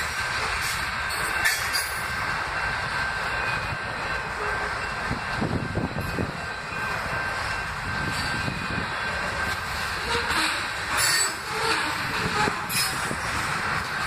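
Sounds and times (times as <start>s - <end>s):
steel wheels running on rails: 0.0s - 14.0s.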